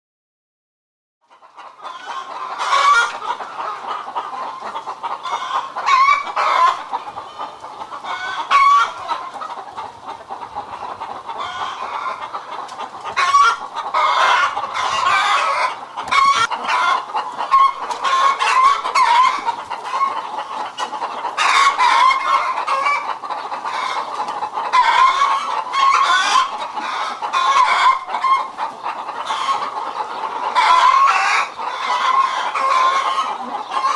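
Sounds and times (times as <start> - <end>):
hens clucking: 1.2 - 33.9.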